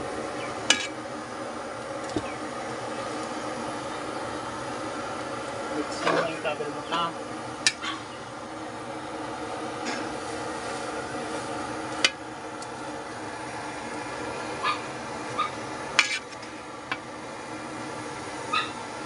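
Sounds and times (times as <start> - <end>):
pot boiling: 0.0 - 19.0.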